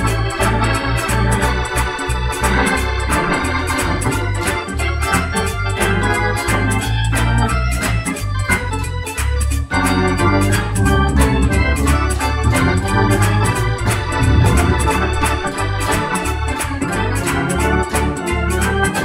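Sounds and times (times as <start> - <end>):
organ playing chords and melody: 0.0 - 19.0.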